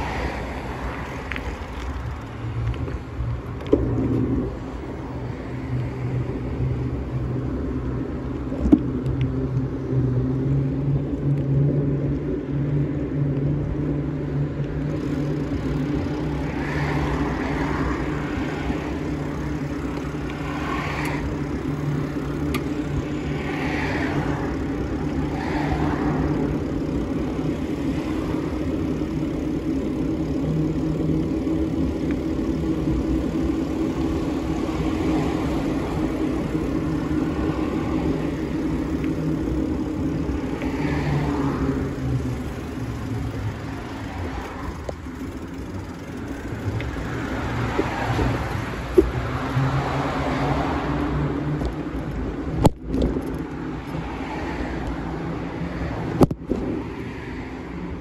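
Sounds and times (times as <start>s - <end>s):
low hum and rushing noise: 0.0s - 58.0s
slow-moving cars: 0.0s - 58.0s.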